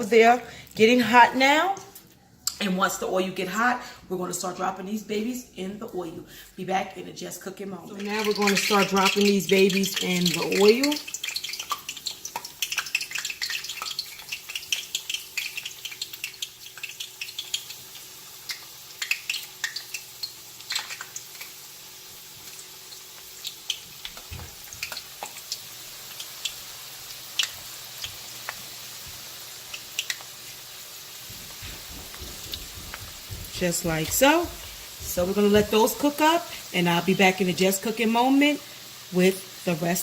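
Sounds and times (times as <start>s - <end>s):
chicken frying in hot oil: 7.8s - 40.0s.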